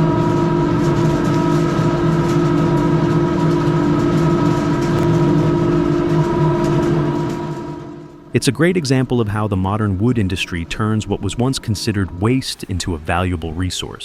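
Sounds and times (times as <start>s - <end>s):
heavy machinery droning: 0.0s - 14.0s.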